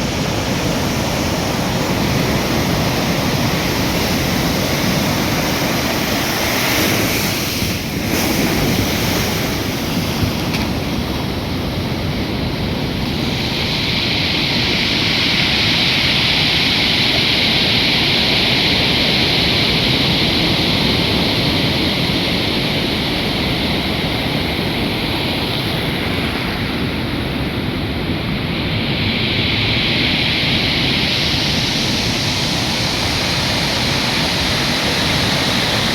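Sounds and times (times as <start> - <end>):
stormy sea surf breaking: 0.0 - 35.9.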